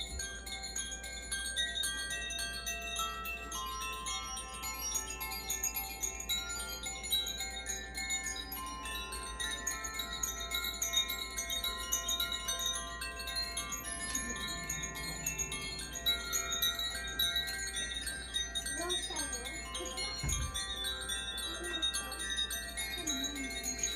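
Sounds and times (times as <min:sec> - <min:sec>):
tuned metal chimes ringing: 0:00.0 - 0:23.9.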